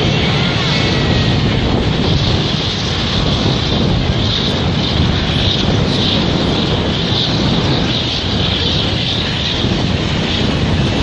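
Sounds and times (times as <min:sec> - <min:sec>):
jet airliner taking off: 0:00.0 - 0:11.0.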